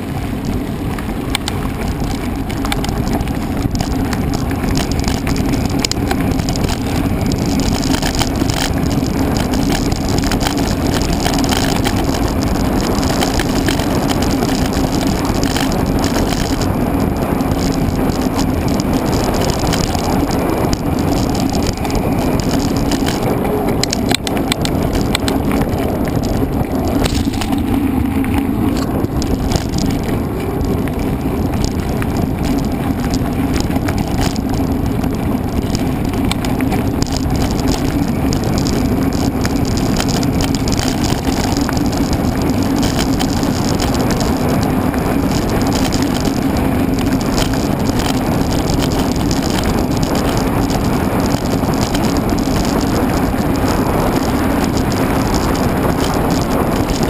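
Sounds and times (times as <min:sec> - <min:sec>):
bike rattling and knocking: 0:00.0 - 0:57.0
wind and tyre noise: 0:00.0 - 0:57.0.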